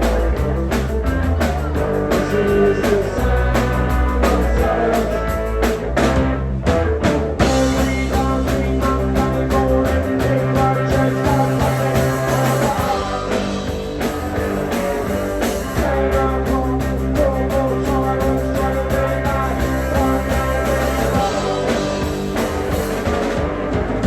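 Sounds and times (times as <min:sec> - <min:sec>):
punk rock band playing: 0:00.0 - 0:24.0.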